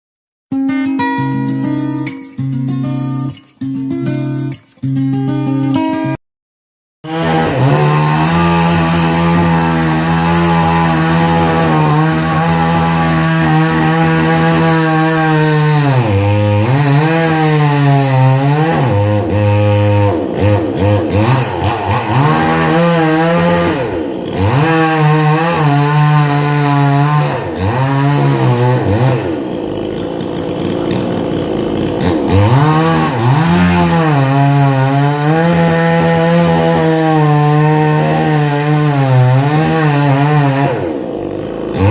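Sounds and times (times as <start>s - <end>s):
chainsaw cutting wood: 7.0s - 41.9s.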